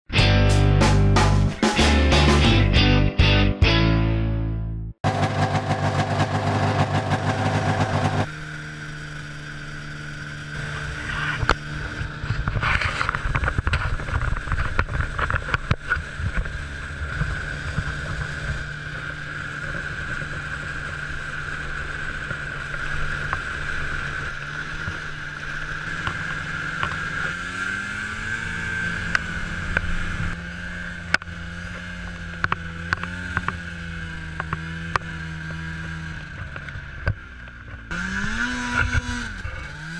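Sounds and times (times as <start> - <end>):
snowmobile engine running: 5.0 - 39.9.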